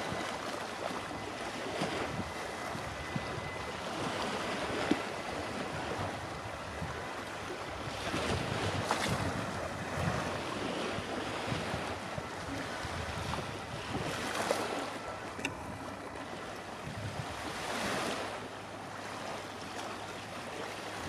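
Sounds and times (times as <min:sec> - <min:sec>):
small waves washing on beach: 0:00.0 - 0:21.0
wind buffeting microphone: 0:01.0 - 0:18.3.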